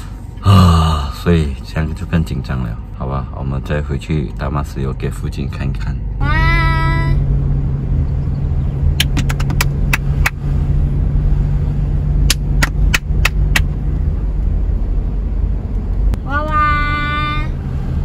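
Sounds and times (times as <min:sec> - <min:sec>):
engine and road rumble: 0:00.0 - 0:18.0
low hum: 0:00.0 - 0:18.0.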